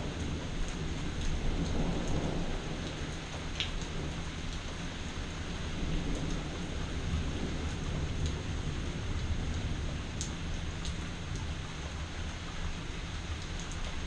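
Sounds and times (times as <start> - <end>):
distant thunder rumble: 0.0 - 12.7
steady rain falling: 0.0 - 14.0.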